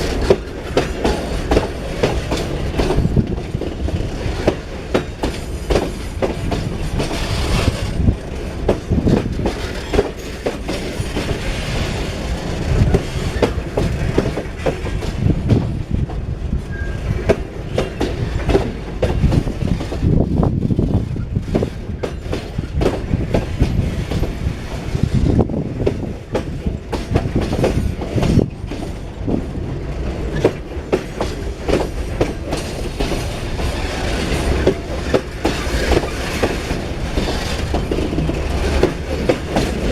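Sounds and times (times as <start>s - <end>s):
freight train rumble: 0.0s - 39.9s
train wheels clacking on rails: 0.0s - 39.9s.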